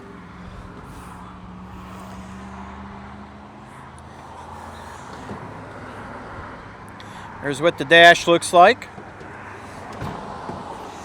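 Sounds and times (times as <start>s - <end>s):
outdoor background noise: 0.0s - 11.0s
vehicle engine running: 0.0s - 11.0s.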